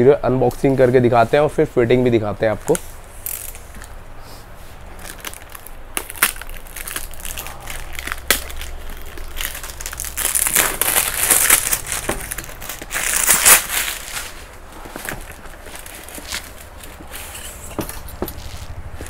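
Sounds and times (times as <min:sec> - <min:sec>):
plastic shrink-wrap crinkling: 0:02.5 - 0:04.0, 0:04.8 - 0:19.0.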